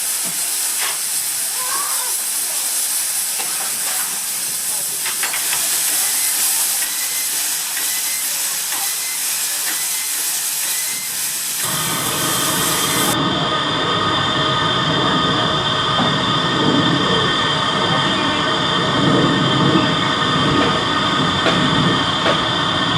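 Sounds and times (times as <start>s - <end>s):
steam locomotive hissing: 0.0s - 22.9s
train rumbling: 0.0s - 22.9s.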